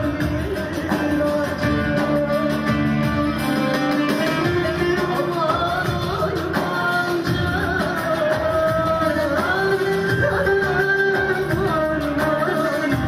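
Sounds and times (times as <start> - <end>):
guitar: 0.0 - 13.0
woman singing into a microphone: 0.0 - 13.0.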